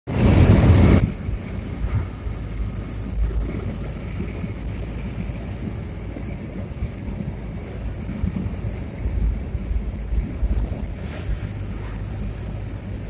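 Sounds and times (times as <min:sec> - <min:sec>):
car engine and tyre rumble: 0:00.1 - 0:13.0
loud rush of noise: 0:00.1 - 0:13.0.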